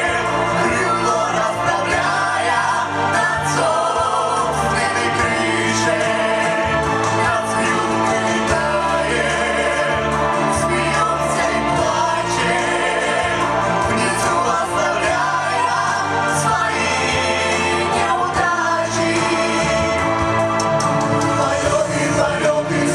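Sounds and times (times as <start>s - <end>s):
instrumental accompaniment: 0.0s - 22.9s
vocal ensemble singing in chorus: 0.0s - 22.9s.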